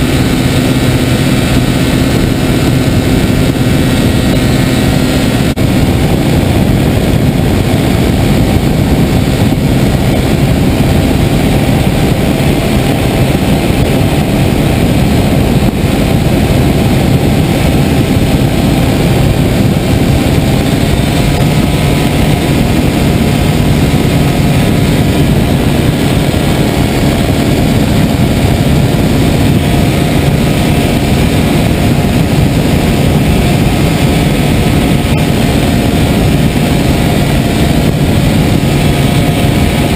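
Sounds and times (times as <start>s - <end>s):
small engine and propeller droning: 0.0s - 39.9s
wind rushing past microphone: 0.0s - 39.9s.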